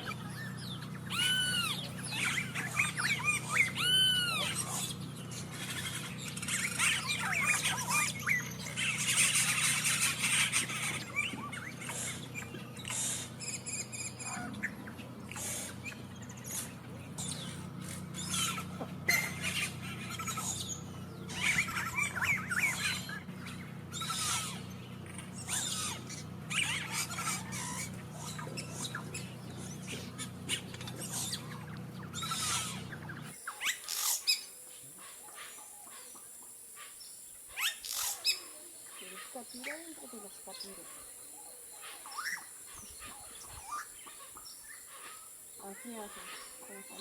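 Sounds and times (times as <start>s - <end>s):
birds calling: 0.0s - 47.0s
steady low hum: 0.0s - 47.0s.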